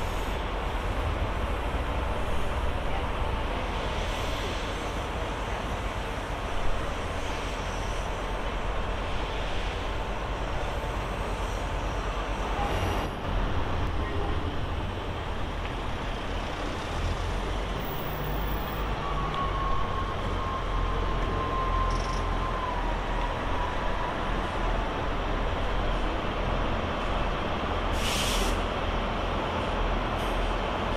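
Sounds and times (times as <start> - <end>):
diesel train idling: 0.0 - 30.9.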